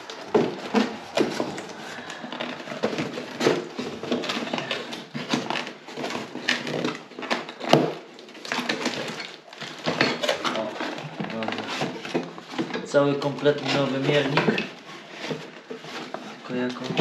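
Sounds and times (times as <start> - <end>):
packaging rustling and knocking: 0.0 - 17.0.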